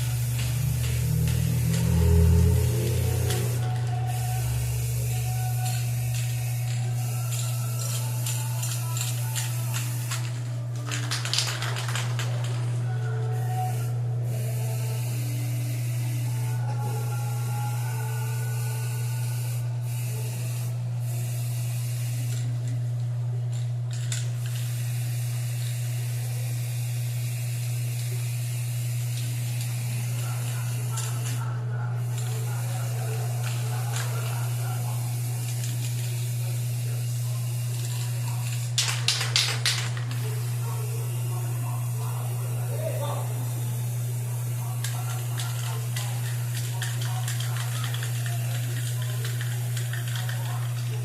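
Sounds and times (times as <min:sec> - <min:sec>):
spray paint hissing: 0:00.0 - 0:22.8, 0:23.9 - 0:51.0
low machine hum: 0:00.0 - 0:51.0.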